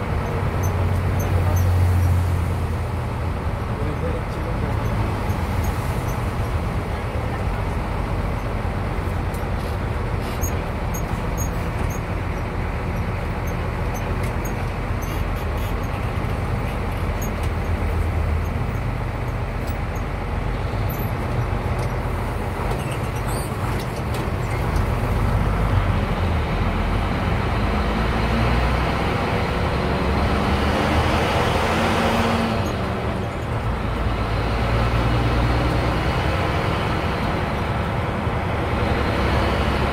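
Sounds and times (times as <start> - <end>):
bus engine drone and road noise: 0.0 - 39.9.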